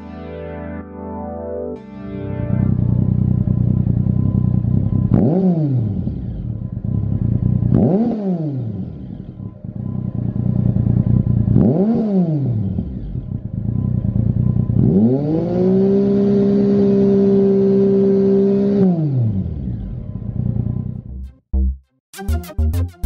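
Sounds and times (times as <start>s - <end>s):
motorcycle engine idling and revving: 2.4s - 21.5s.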